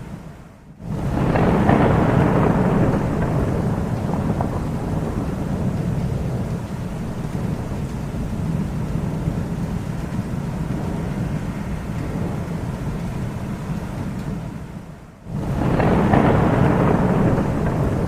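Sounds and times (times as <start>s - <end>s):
distant thunder rumbling: 0.8s - 18.0s.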